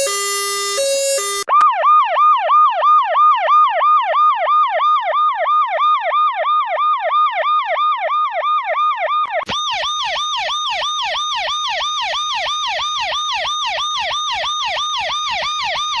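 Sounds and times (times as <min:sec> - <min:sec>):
electronic siren sweeping up and down: 0:00.0 - 0:16.0.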